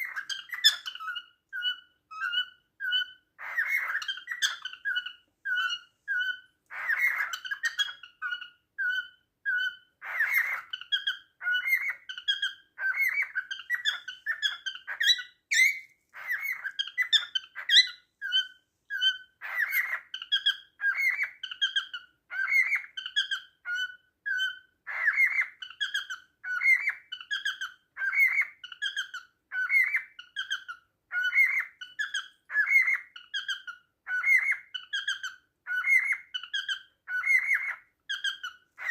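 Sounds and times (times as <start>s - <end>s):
cockatiel squawks: 0.0s - 38.9s
cockatiel whistling song: 0.0s - 38.9s.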